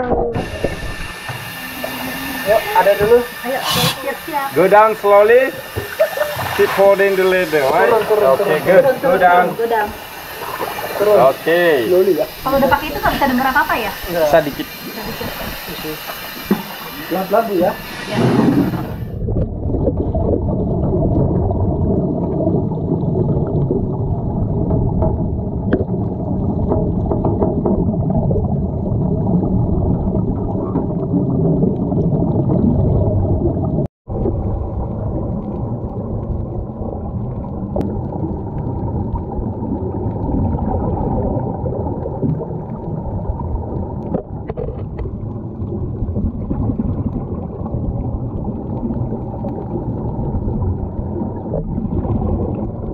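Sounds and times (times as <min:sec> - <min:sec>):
underwater air bubbling: 0:00.0 - 0:52.9.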